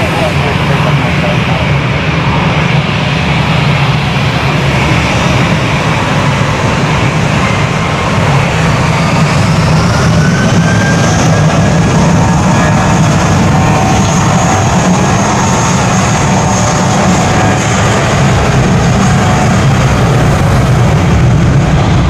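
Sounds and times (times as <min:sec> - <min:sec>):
jet engines spooling up: 0:00.0 - 0:22.0.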